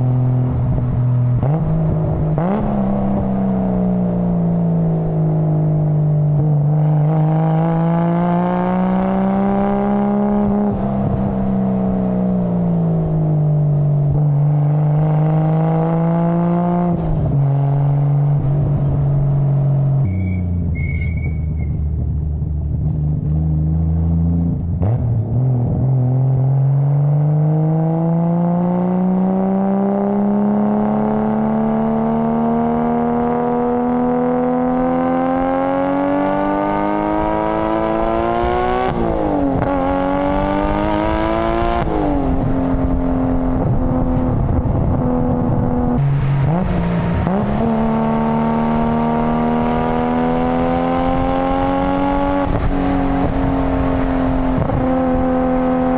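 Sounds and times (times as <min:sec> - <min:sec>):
car engine and exhaust revving: 0:00.0 - 0:55.9.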